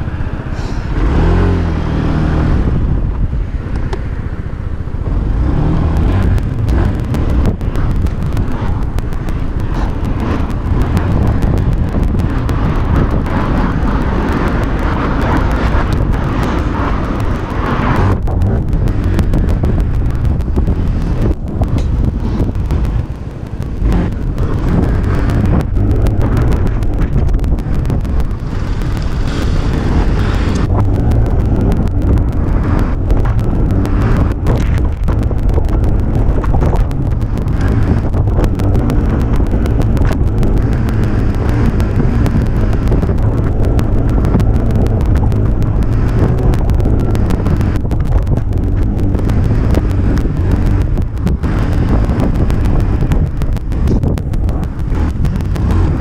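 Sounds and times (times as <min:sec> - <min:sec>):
scooter engine running: 0:00.0 - 0:56.0
wind buffeting microphone: 0:00.0 - 0:56.0.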